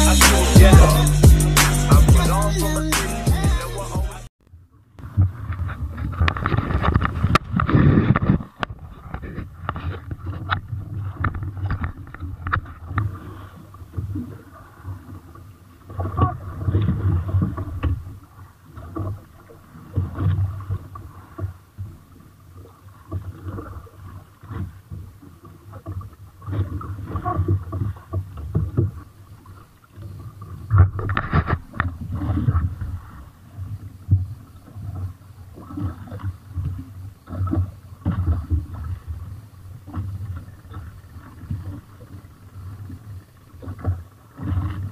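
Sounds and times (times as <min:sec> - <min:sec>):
water splashing against boat hull: 0:05.0 - 0:44.9.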